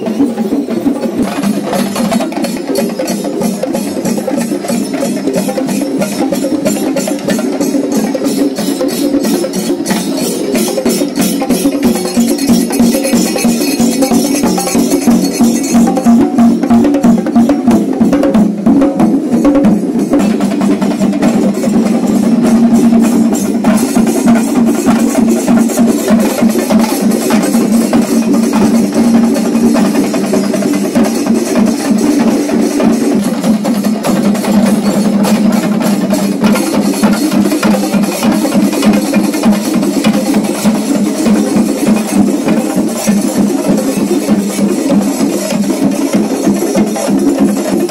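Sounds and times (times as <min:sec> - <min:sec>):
drums beaten with sticks: 0:00.0 - 0:47.9.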